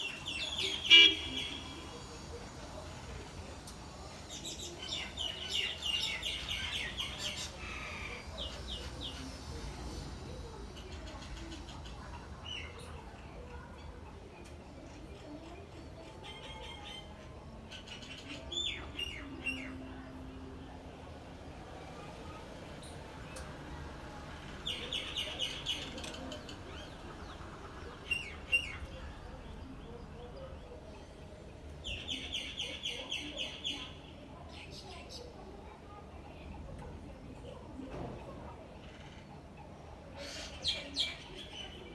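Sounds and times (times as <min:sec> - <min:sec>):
songbird singing: 0:00.0 - 0:02.9, 0:03.8 - 0:35.8
small birds chirping: 0:00.0 - 0:37.8.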